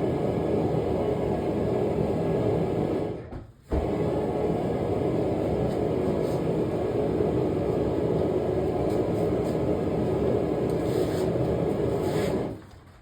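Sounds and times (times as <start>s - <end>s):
forge burner flame rushing: 0.0s - 12.7s.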